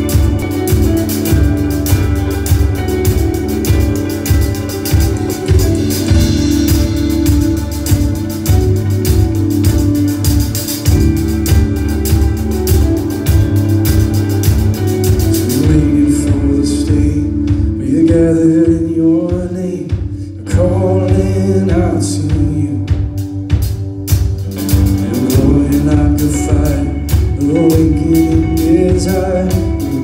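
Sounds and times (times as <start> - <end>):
drum kit and cymbals: 0.0 - 30.0
electric bass: 0.0 - 30.0
electric guitar: 0.0 - 30.0.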